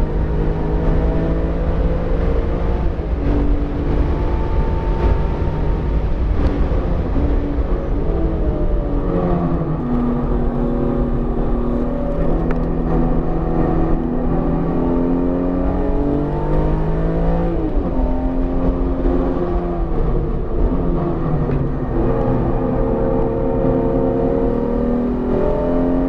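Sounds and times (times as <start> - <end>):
car engine revving: 0.0 - 26.0
road noise rumble: 0.0 - 26.0.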